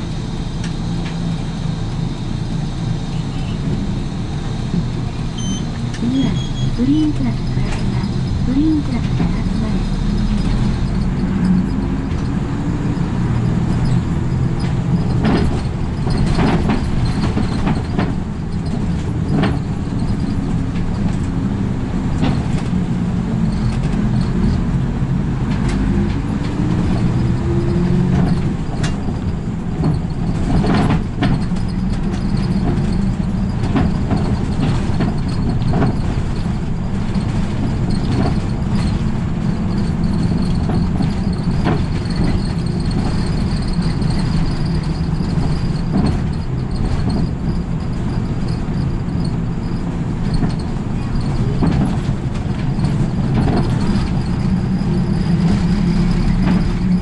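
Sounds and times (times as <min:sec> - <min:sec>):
bus engine running: 0:00.0 - 0:57.0
road noise: 0:00.0 - 0:57.0
rattles and knocks: 0:06.9 - 0:24.8, 0:25.4 - 0:57.0.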